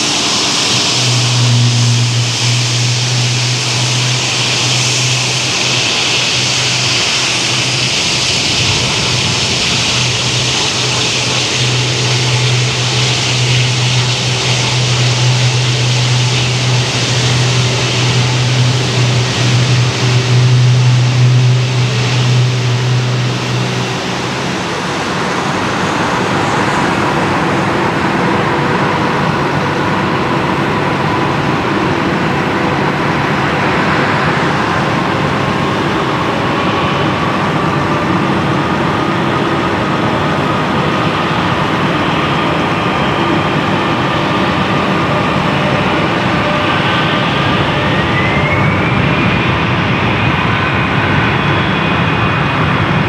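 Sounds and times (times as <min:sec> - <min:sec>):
higher climbing whine: 0:00.0 - 0:53.0
jet engines roaring with whine: 0:00.0 - 0:53.0.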